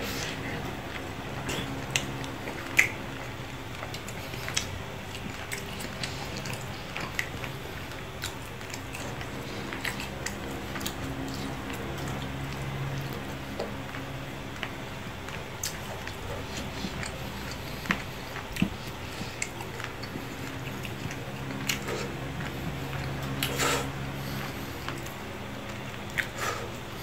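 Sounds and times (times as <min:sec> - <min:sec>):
wet chewing: 0:00.0 - 0:27.0.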